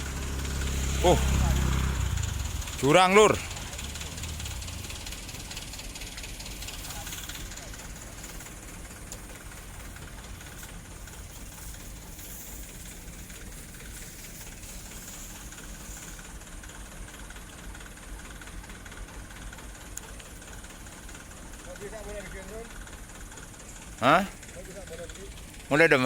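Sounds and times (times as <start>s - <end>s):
constant hiss: 0.0s - 26.0s
dump truck engine rumbling: 0.0s - 26.0s.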